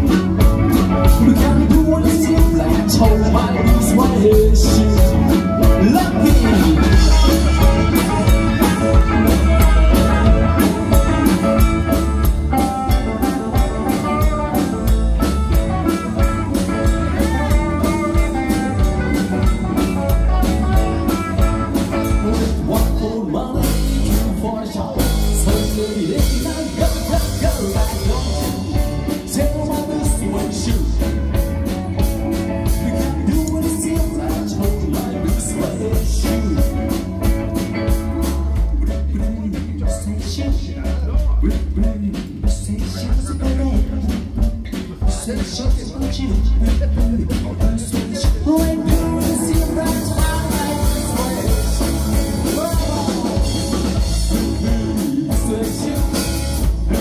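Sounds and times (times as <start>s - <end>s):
drum kit: 0.0s - 57.0s
electric bass: 0.0s - 57.0s
electric guitars: 0.0s - 57.0s
person singing: 0.0s - 57.0s.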